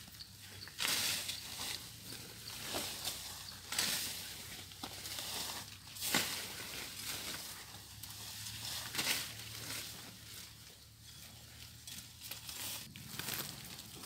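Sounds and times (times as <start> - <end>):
wet leaves rustling and crackling: 0.0 - 14.0.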